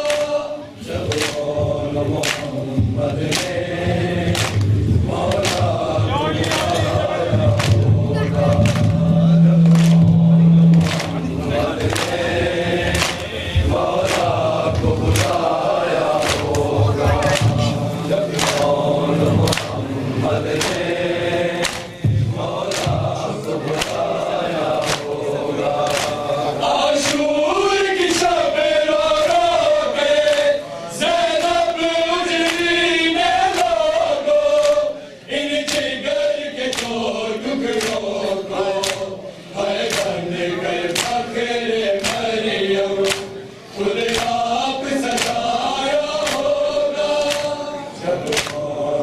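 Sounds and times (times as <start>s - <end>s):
men chanting a lament: 0.0s - 49.0s.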